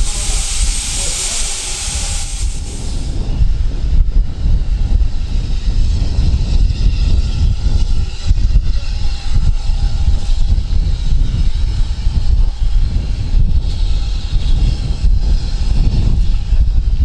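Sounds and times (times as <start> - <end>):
train rumbling: 0.0 - 16.5.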